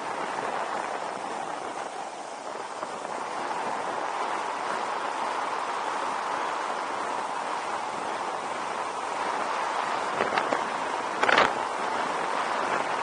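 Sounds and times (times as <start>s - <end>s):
road and engine noise: 0.0s - 13.0s
wind over microphone: 0.0s - 13.0s.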